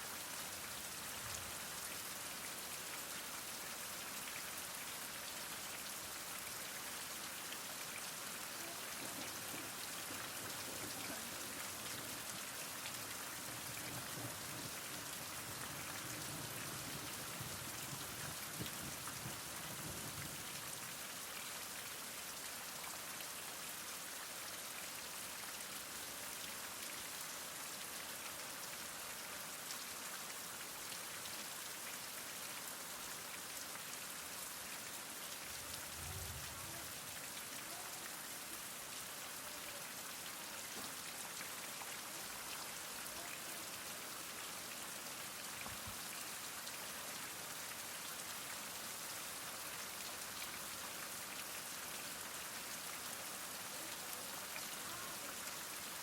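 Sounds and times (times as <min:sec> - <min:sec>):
heavy rain falling: 0:00.2 - 0:23.0, 0:32.5 - 0:56.0.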